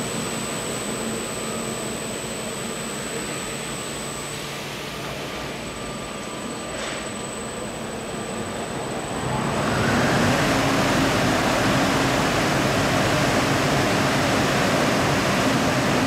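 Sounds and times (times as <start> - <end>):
washing machine rushing noise: 0.0 - 16.0.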